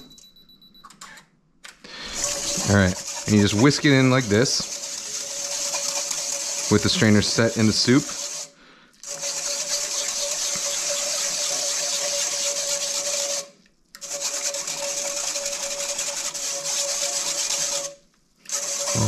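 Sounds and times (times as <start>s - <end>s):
whisk scraping in mesh strainer: 2.0s - 8.4s, 9.0s - 19.0s.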